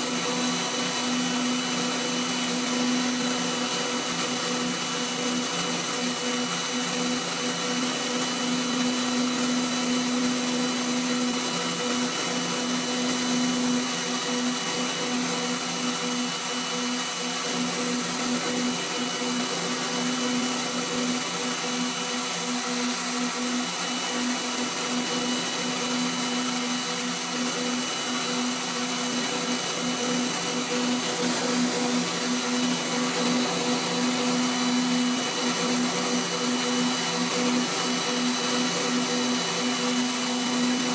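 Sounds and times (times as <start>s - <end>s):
grinder motor hum: 0.0s - 40.9s.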